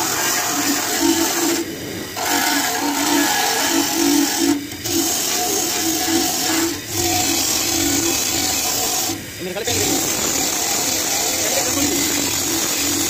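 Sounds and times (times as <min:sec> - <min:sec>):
wire wheel grinding metal: 0:00.0 - 0:13.0.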